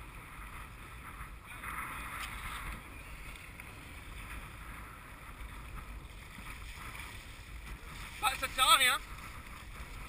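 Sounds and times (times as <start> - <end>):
muffled wind: 0.0 - 10.0
water noise: 0.0 - 10.0.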